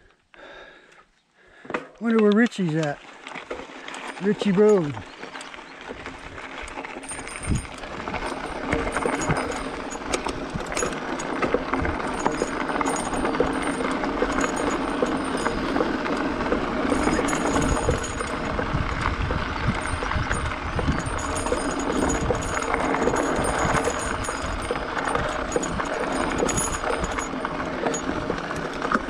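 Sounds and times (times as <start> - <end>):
bike rattling: 1.8 - 29.0
tyres crunching on gravel: 2.0 - 29.0.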